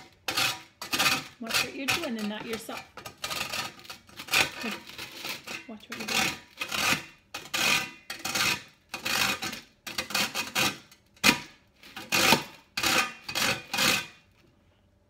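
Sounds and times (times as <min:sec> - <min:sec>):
bread rasping on a metal grater: 0:00.0 - 0:14.2.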